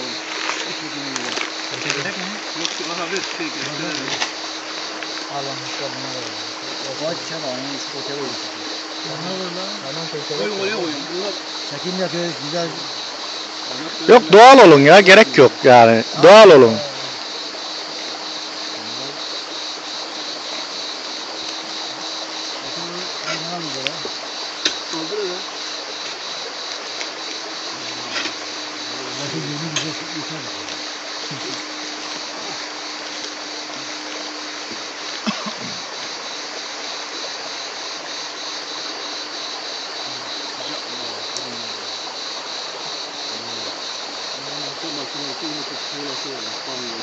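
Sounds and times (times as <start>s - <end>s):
creek water running: 0.0s - 47.0s
insects buzzing: 0.0s - 47.0s.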